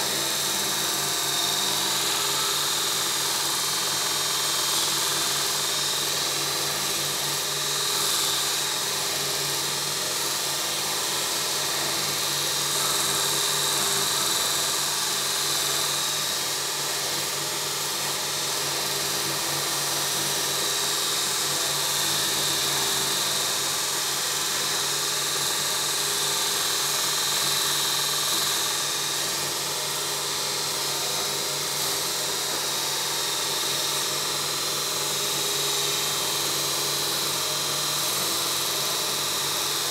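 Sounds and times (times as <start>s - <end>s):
belt grinder motor hum: 0.0s - 39.9s.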